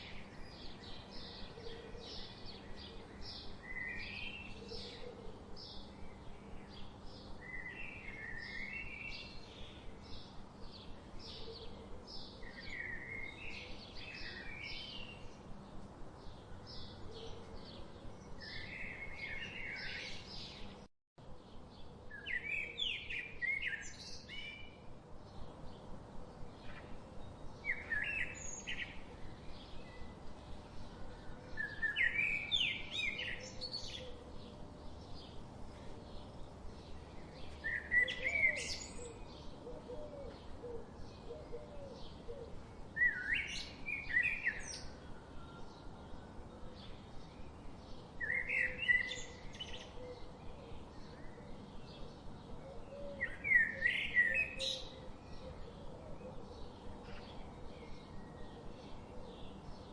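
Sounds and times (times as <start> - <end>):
faint steady hum: 0.0 - 59.9
small birds chirping: 0.0 - 59.9.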